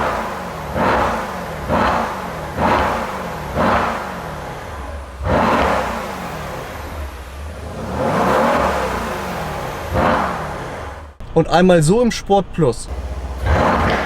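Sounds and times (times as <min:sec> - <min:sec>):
car engine revving: 0:00.0 - 0:11.3, 0:12.9 - 0:14.0.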